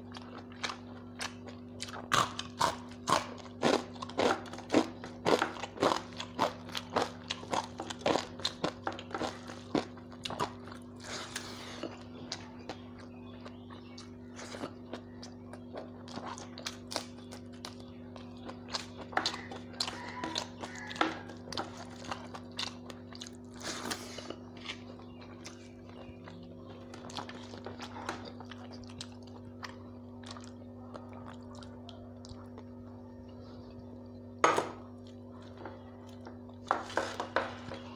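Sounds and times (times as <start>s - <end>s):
person chewing crunchy food: 0.0s - 37.9s
steady low hum: 0.0s - 37.9s.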